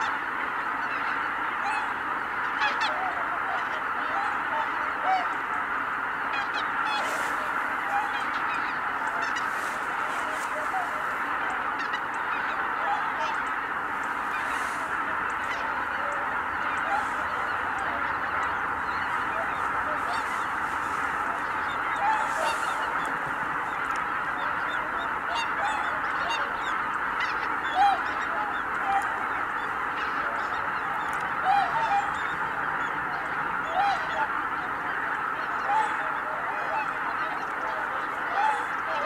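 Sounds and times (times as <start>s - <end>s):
geese honking in flight: 0.0s - 39.0s
single louder goose calls: 0.0s - 39.0s.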